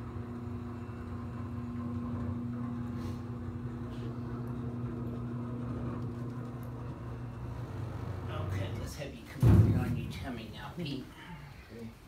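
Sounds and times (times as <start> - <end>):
machine electric hum: 0.0 - 12.0.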